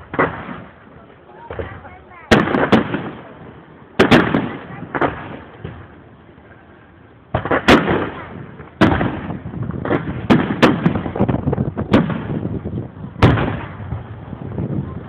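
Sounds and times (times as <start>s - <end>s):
fireworks bursting with loud bangs: 0.0s - 15.0s.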